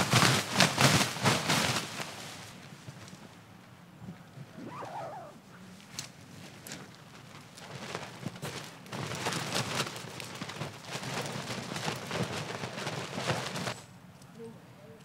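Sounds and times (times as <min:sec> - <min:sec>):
tent fabric rustling: 0:00.0 - 0:03.2, 0:04.4 - 0:13.8.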